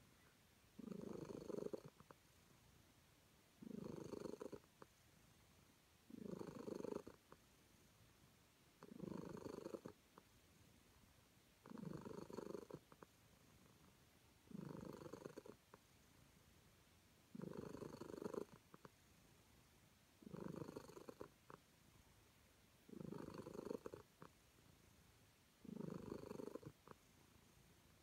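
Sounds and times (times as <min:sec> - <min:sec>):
cat purring: 0:00.0 - 0:02.7, 0:03.6 - 0:04.9, 0:06.0 - 0:08.0, 0:08.8 - 0:10.7, 0:11.6 - 0:16.7, 0:17.3 - 0:19.6, 0:20.2 - 0:22.1, 0:22.8 - 0:28.0.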